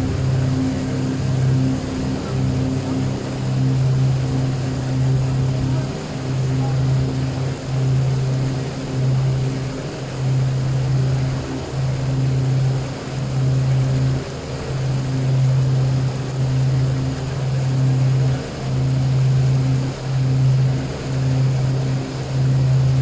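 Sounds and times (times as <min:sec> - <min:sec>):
boat engine humming: 0:00.0 - 0:23.0.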